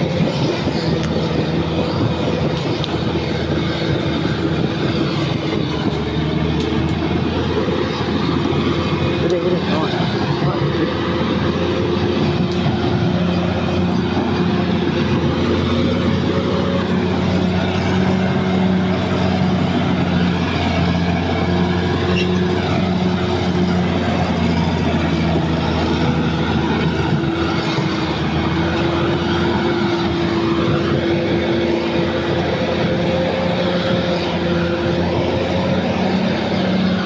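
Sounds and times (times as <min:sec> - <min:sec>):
bulldozer diesel engine droning: 0:00.0 - 0:37.0.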